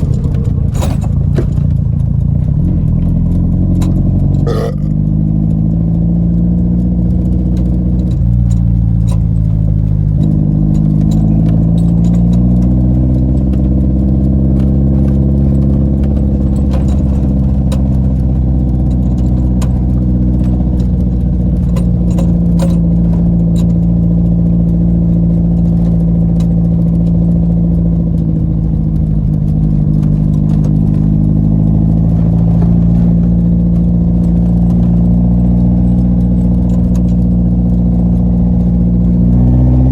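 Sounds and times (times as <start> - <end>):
car engine running: 0.0 - 39.9
light rattles and clicks: 0.0 - 39.9.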